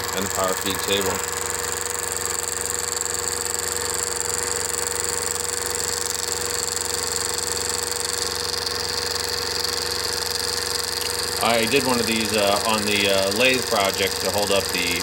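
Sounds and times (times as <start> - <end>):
mini mill cutting acrylic: 0.0 - 15.0.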